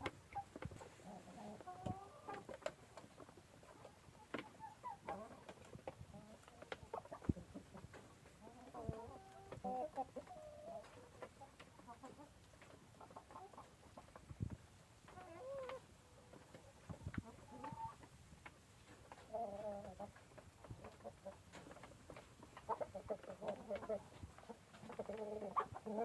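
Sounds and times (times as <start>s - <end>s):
chickens clucking softly: 0.0s - 26.0s.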